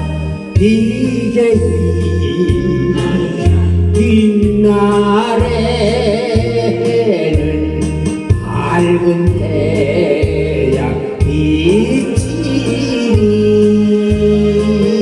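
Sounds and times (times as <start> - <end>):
bass line: 0.0 - 15.0
trot song accompaniment: 0.0 - 15.0.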